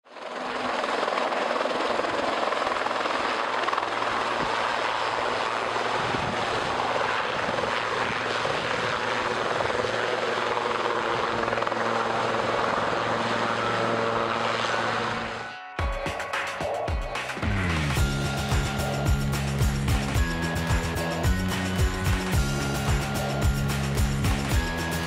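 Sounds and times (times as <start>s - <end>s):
helicopter rotors and engines: 0.0s - 25.0s.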